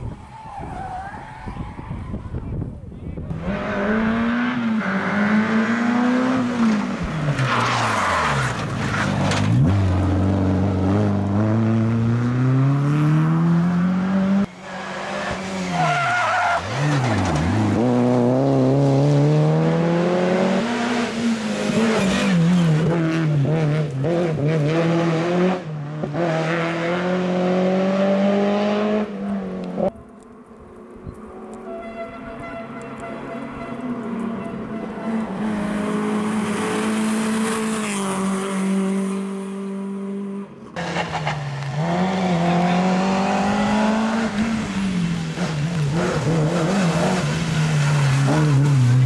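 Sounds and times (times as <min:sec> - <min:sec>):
rally car engines revving: 0:02.0 - 0:29.9, 0:32.9 - 0:49.0.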